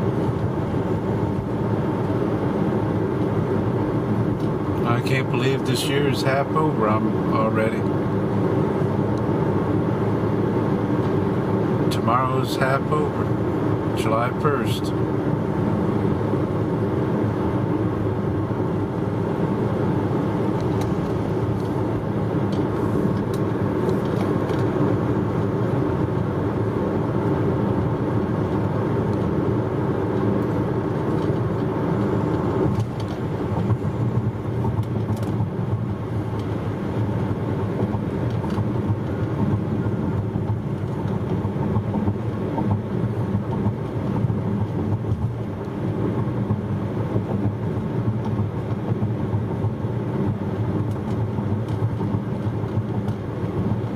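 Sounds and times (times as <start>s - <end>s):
car cabin road noise: 0.0s - 53.9s.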